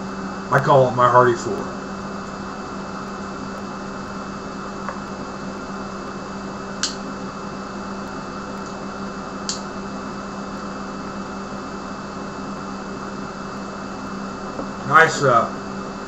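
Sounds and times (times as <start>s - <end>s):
fan-like hiss: 0.0s - 16.0s
low hum: 0.0s - 16.0s.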